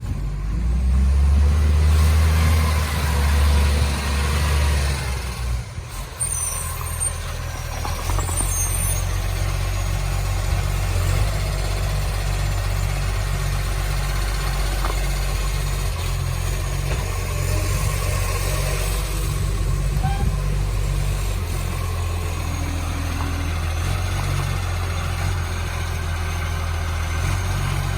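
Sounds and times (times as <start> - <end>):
garbage truck diesel engine idling: 4.0 - 27.9.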